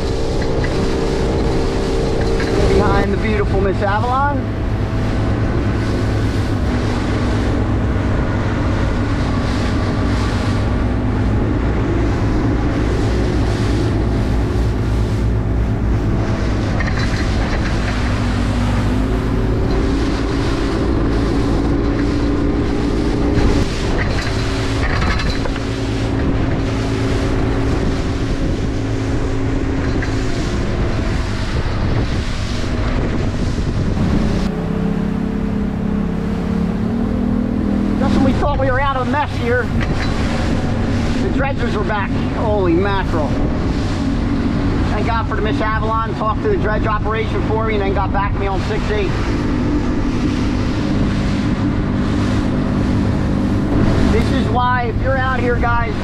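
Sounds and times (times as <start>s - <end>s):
hull rushing through water: 0.0s - 56.0s
outboard boat engine running: 0.0s - 56.0s
wind buffeting microphone: 0.0s - 56.0s.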